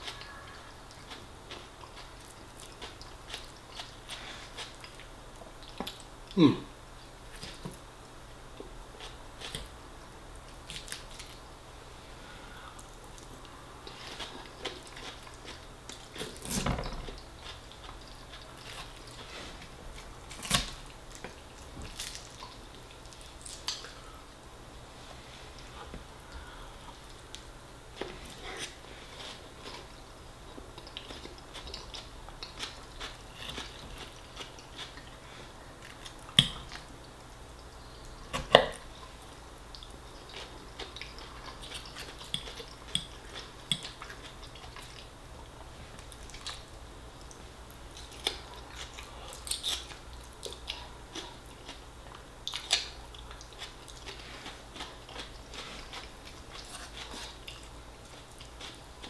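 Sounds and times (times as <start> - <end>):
man chewing food: 0.0 - 11.6, 12.2 - 59.0.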